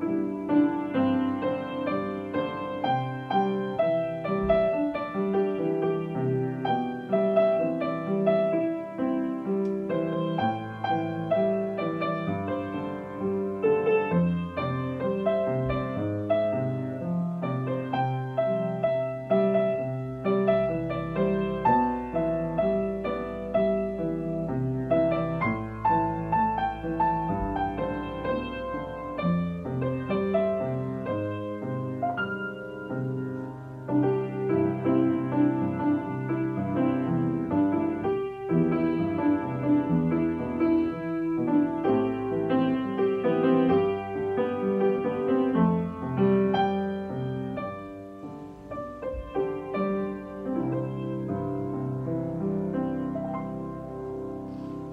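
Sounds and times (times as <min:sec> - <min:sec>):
gentle piano melody: 0:00.0 - 0:54.9.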